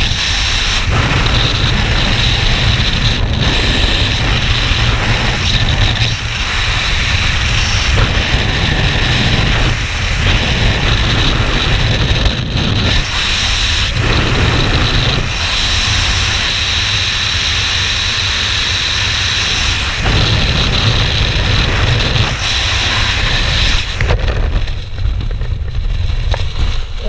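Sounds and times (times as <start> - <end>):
freefall wind rushing: 0.0 - 27.0
gusty wind noise: 0.0 - 27.0.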